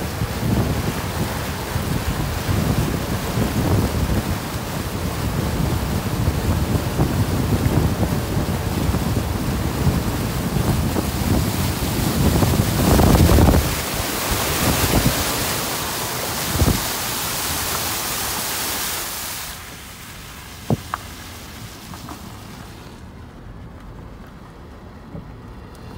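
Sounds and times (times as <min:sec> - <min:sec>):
water splashing against van: 0:00.0 - 0:23.8.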